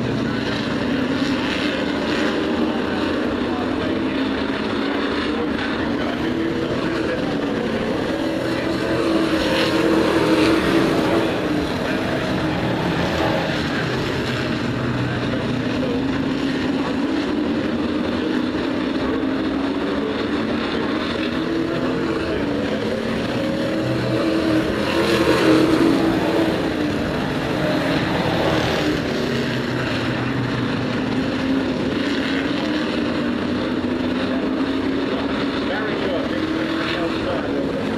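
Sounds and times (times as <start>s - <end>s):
racing trucks engines: 0.0s - 37.9s.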